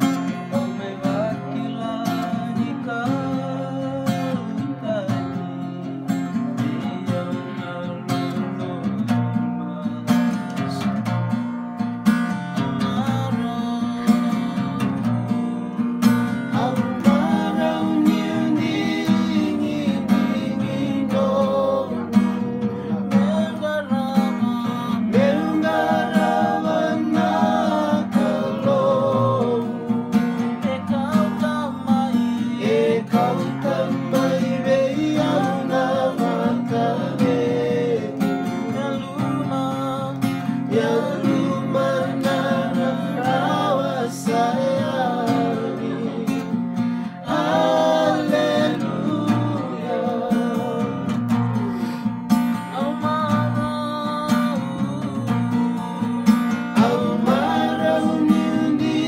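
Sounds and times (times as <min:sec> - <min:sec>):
men singing: 0:00.0 - 0:10.9, 0:12.6 - 0:59.0
acoustic guitar strumming: 0:00.0 - 0:59.0.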